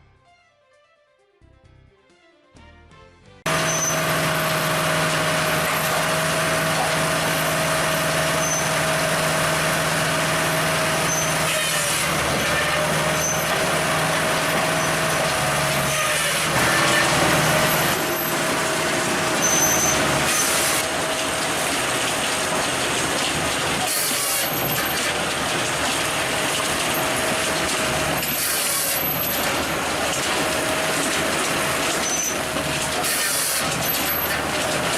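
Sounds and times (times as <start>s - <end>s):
firewood processor engine hum: 3.5s - 34.9s.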